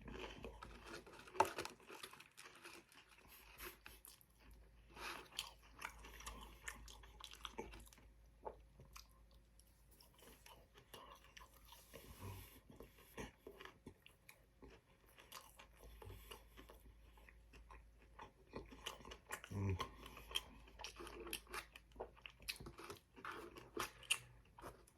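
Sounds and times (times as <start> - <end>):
chewing and crunching: 0.0 - 24.9.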